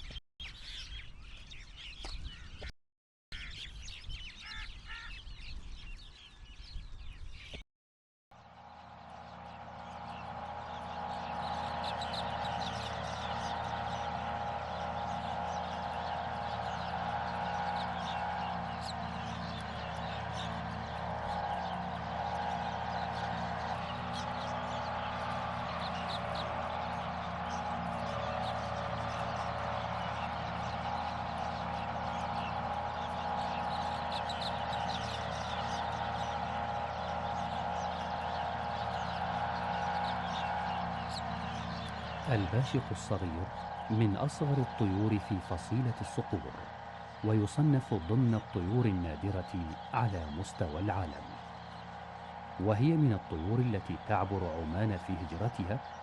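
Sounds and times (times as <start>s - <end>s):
small birds chirping: 0.0s - 2.7s, 3.3s - 7.6s, 8.4s - 56.0s
steady drone: 8.4s - 56.0s.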